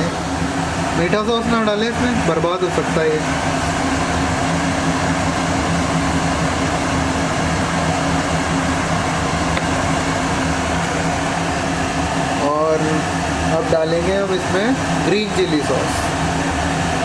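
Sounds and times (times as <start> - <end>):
fan motor whirring: 0.0 - 17.0.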